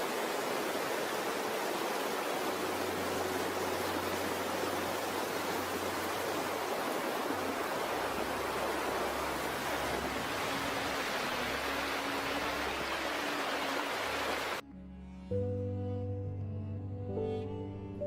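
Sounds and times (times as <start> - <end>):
fast-flowing water rushing: 0.0 - 14.6.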